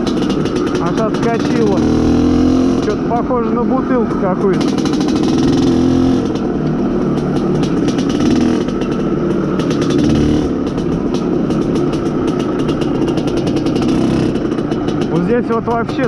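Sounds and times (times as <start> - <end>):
two-stroke motorcycle engine running: 0.0 - 16.0.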